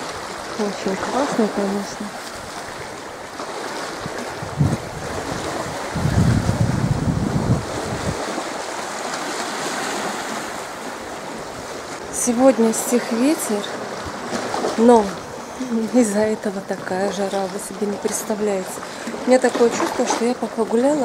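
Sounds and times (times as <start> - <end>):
sea waves washing on rocks: 0.0 - 21.0
wind buffeting microphone: 0.0 - 21.0.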